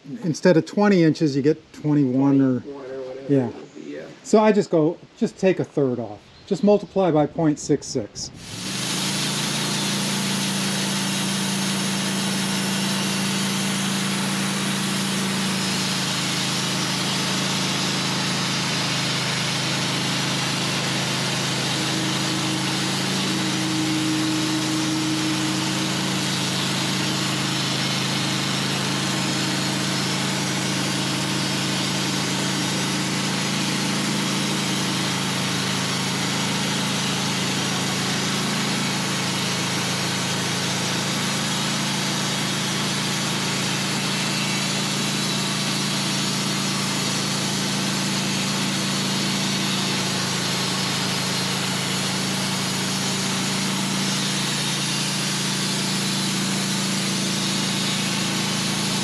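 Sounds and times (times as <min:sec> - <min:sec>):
sawmill engine running: 0:00.0 - 0:02.5, 0:07.6 - 0:59.0
blade sawing through log: 0:08.3 - 0:59.0.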